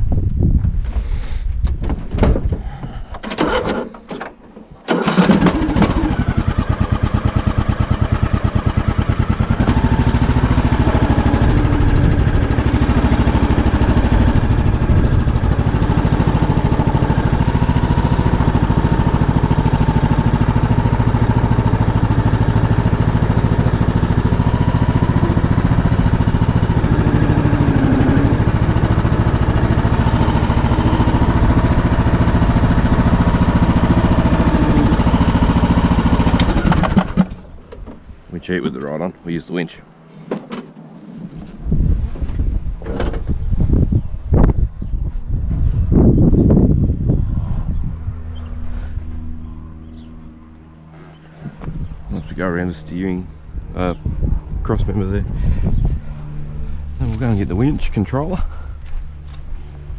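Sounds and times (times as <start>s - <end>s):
ride-on mower engine running: 3.2s - 39.1s, 45.4s - 59.9s.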